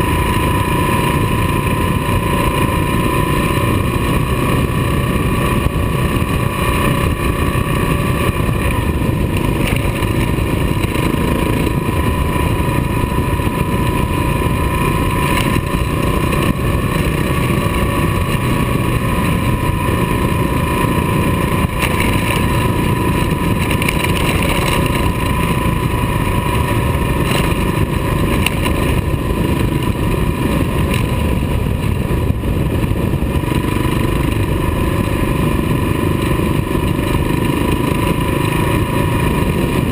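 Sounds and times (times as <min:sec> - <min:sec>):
motorcycle engine drone: 0:00.0 - 0:39.9
tyres on gravel road: 0:00.0 - 0:39.9
wind noise: 0:00.0 - 0:39.9.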